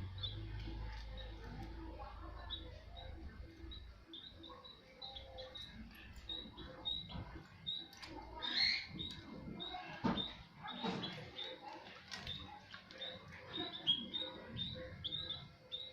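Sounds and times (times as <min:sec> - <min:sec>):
bird peeping: 0:00.0 - 0:15.9.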